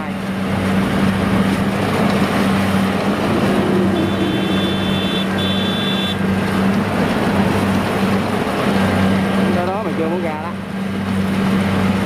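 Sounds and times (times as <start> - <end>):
diesel engine droning under load: 0.0 - 12.0.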